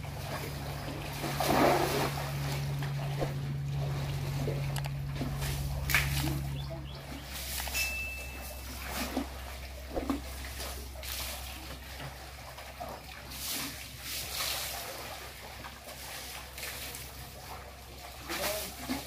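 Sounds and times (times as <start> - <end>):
steady low hum: 0.0 - 19.0
water splashing and sloshing: 0.0 - 19.0.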